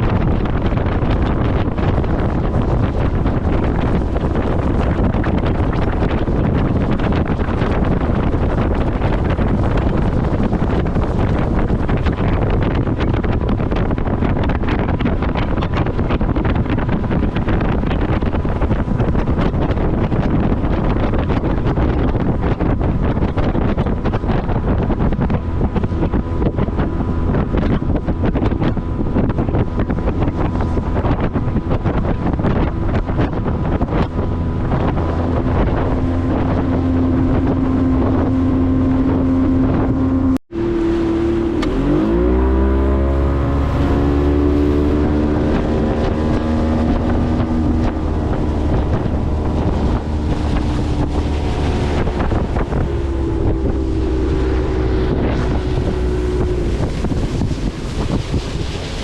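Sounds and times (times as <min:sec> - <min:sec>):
motorboat engine running: 0:00.0 - 0:59.0
wind on microphone: 0:00.0 - 0:59.0.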